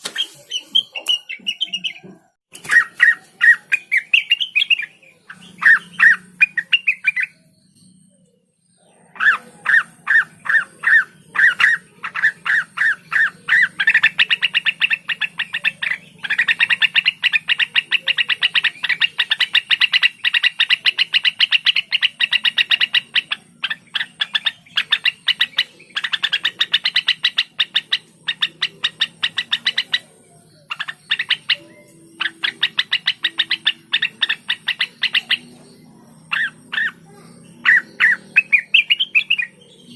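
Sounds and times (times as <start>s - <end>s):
bird singing rapid runs: 0.0s - 39.9s.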